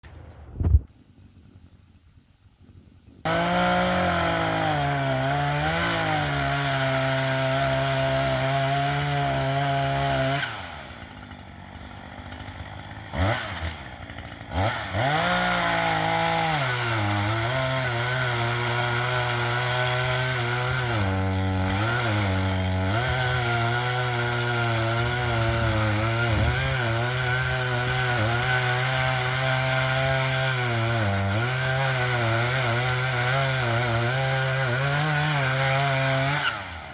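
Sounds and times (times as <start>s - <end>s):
chainsaw idling: 1.2s - 36.9s
chainsaw cutting wood: 3.1s - 36.9s
chainsaw throttle blips: 3.2s - 36.9s.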